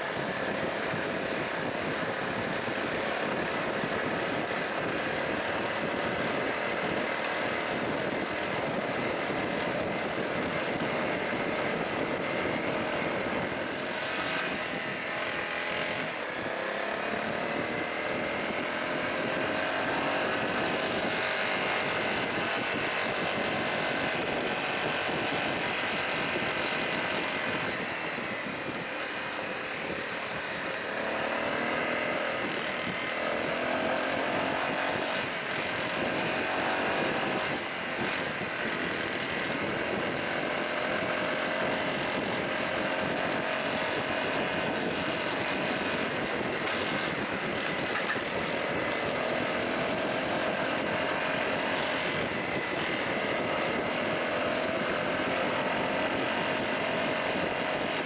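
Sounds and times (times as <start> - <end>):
gravel road noise: 0.0 - 58.0
motorcycle engine cruising: 0.0 - 58.0.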